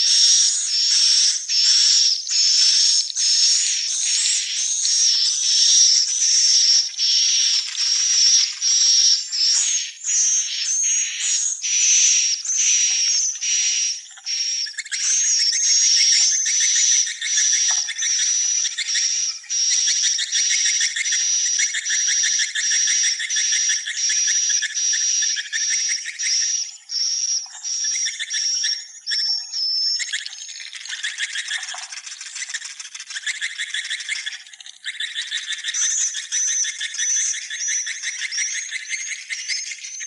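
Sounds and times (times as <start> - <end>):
fast clicking twitter: 0.0 - 40.0
high buzzy bird chirps: 0.0 - 40.0.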